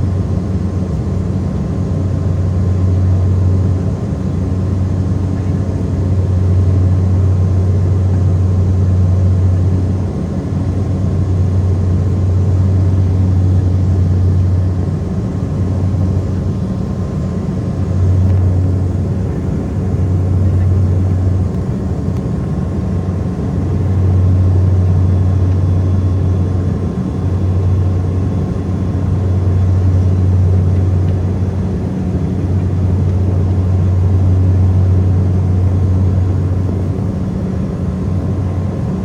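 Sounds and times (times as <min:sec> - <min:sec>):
turboprop engines droning: 0:00.0 - 0:39.0.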